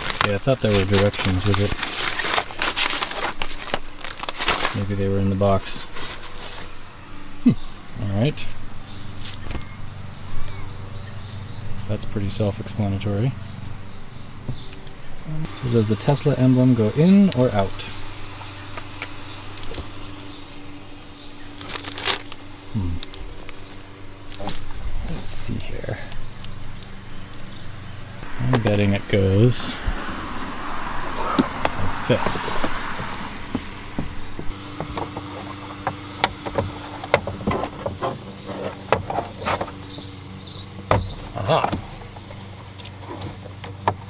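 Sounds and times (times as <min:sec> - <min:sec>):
steady low hum: 0:00.0 - 0:44.0
sun shade rustling: 0:00.0 - 0:44.0.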